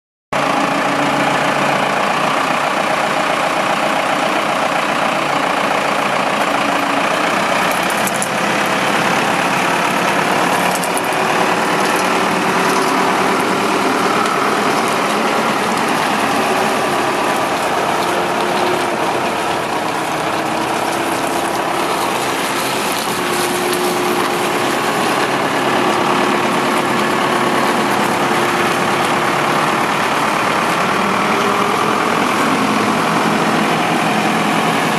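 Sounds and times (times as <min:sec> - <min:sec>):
diesel engine running: 0:00.3 - 0:34.9.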